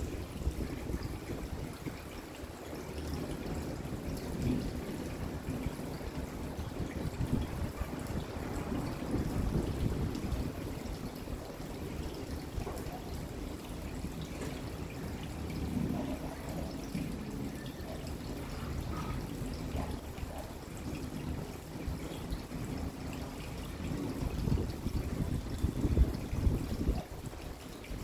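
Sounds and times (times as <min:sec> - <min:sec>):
steady rain falling: 0:00.0 - 0:28.0
water trickling and pouring: 0:00.0 - 0:28.0.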